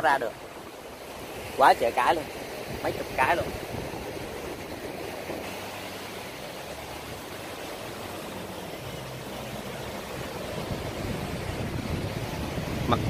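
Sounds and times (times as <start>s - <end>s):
small waves washing onto sand: 0.0s - 13.0s
wind blowing on microphone: 0.9s - 7.4s, 9.0s - 13.0s.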